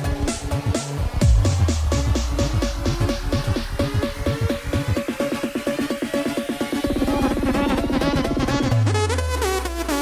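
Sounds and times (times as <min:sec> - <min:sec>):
electronic dance music: 0:00.0 - 0:10.0
hi-hat hits: 0:00.0 - 0:10.0
deep bass sliding down: 0:00.1 - 0:10.0.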